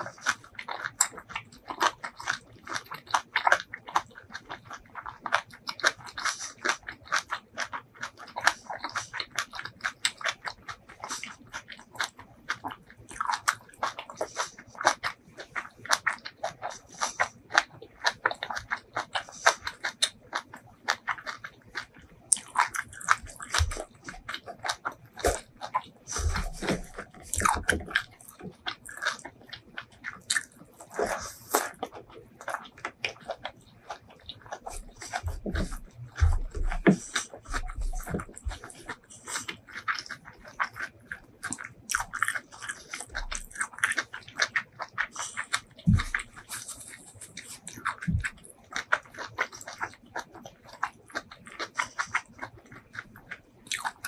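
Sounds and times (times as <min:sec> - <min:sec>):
wet chewing mouth clicks: 0:00.0 - 0:54.0.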